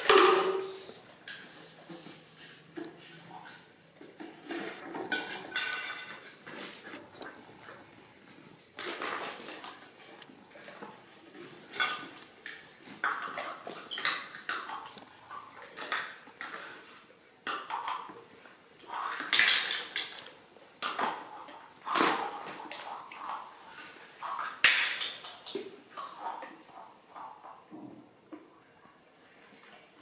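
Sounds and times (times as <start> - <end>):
plastic toys clattering on tiles: 0.0 - 28.0.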